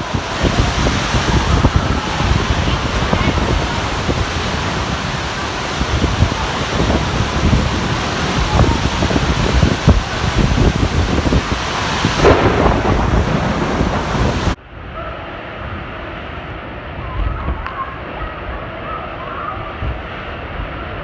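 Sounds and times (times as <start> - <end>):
heavy rain: 0.0 - 21.0
wind gusts buffeting microphone: 0.0 - 21.0.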